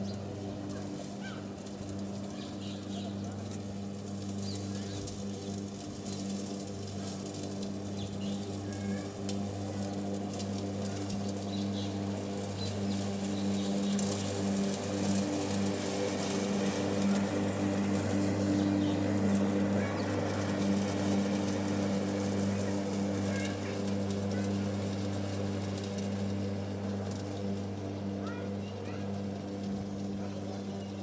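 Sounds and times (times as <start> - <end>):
electric lawn mower humming: 0.0 - 31.0.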